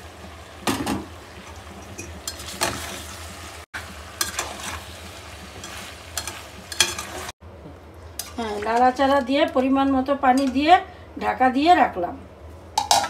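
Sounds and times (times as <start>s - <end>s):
low frying sizzle: 0.0s - 13.0s.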